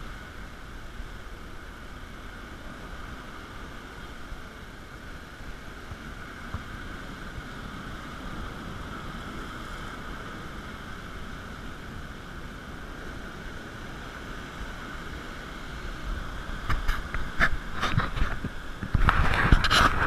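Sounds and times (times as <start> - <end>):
ocean surf breaking over rocks: 0.0 - 20.0.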